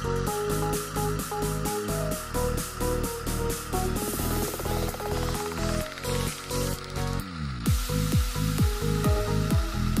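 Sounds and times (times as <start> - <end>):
electronic music with synth: 0.0 - 10.0.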